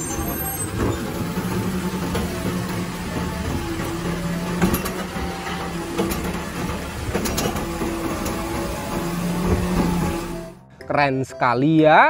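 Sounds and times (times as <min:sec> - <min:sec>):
cart knocking: 0:00.0 - 0:10.5
garbage truck engine and hydraulic arm: 0:00.0 - 0:10.6.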